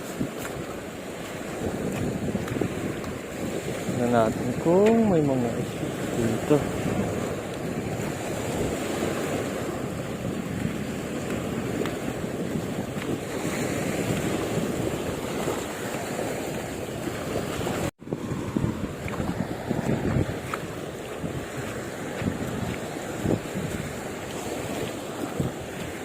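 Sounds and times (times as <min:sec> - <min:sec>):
sea waves: 0:00.0 - 0:26.0
wind buffeting microphone: 0:00.0 - 0:26.0.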